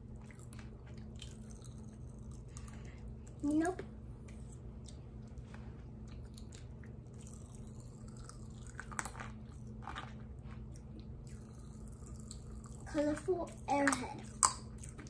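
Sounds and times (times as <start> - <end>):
close-up chewing sounds: 0.0 - 15.0
faint steady hum: 0.0 - 15.0.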